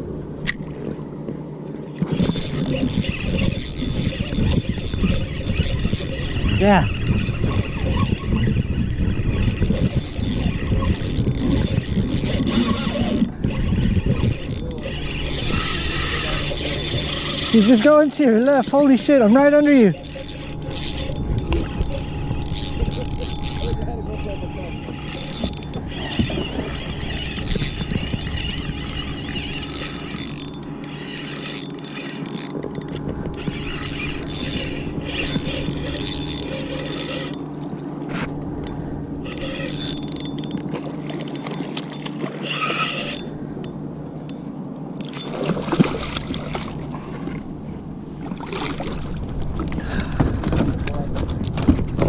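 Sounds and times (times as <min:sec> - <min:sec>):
wind buffeting microphone: 0:02.0 - 0:41.2, 0:44.9 - 0:52.0
fishing reel whirring and clicking: 0:02.0 - 0:47.4.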